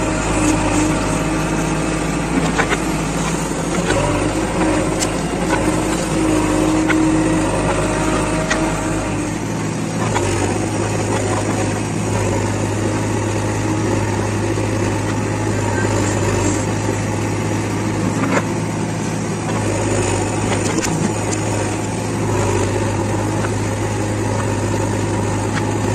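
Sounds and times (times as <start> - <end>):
diesel engine under load: 0.0 - 25.9.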